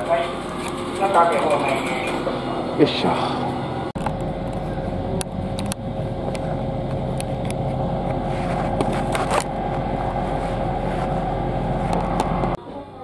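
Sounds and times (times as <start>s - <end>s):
electric train running hum: 0.0s - 13.0s.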